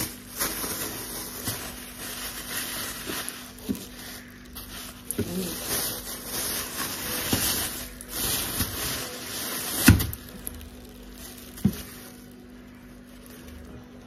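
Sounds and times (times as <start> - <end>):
rustling handling noise: 0.0 - 14.0.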